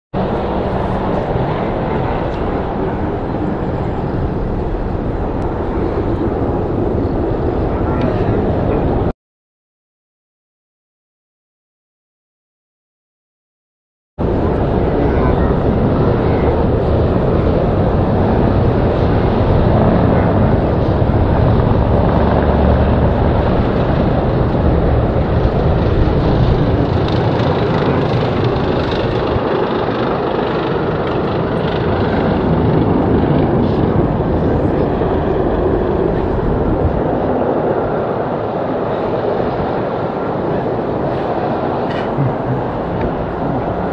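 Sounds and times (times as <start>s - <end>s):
jet engines rumbling: 0.2s - 9.1s, 14.2s - 43.9s.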